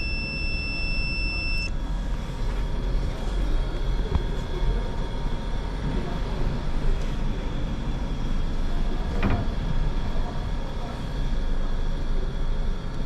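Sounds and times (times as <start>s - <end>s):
faint steady whine: 0.0s - 13.0s
low mechanical rumble: 0.0s - 13.0s.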